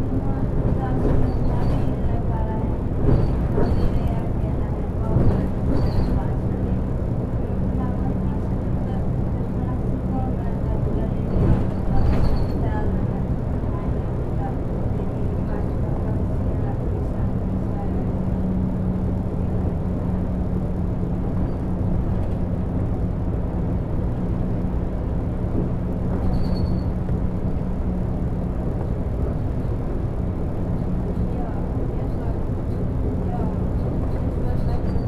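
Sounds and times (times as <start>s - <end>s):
bus diesel engine rumbling: 0.0s - 35.0s.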